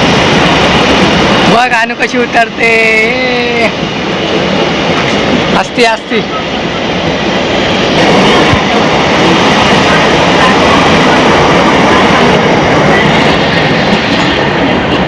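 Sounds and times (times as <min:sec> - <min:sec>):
train rushing rumble: 0:00.0 - 0:15.0.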